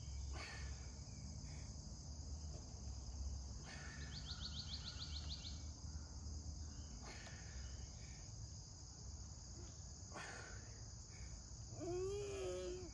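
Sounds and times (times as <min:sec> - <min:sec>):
crickets and insects chirring: 0:00.0 - 0:12.9.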